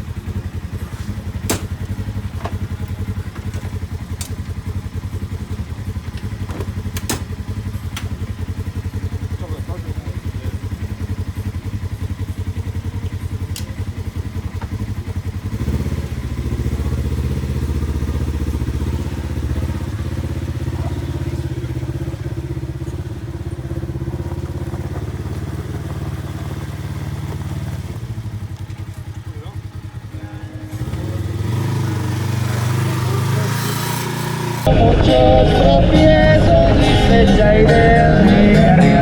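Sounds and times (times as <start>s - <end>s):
off-road vehicle engine running: 0.0s - 39.0s.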